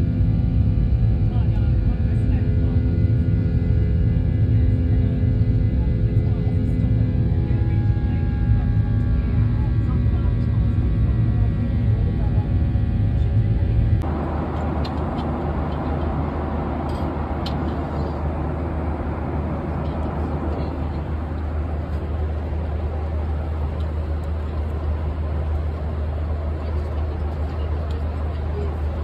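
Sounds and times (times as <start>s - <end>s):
airliner cabin roar: 0.0s - 29.0s.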